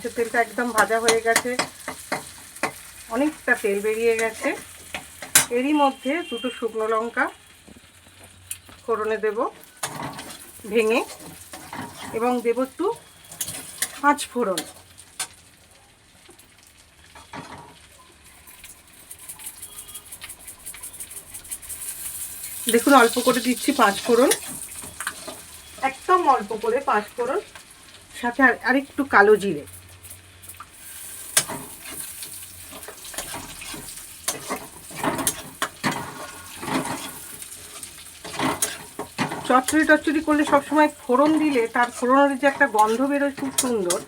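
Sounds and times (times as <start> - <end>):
oil sizzling in a pan: 0.0 - 44.0
spices crackling in oil: 0.0 - 44.0.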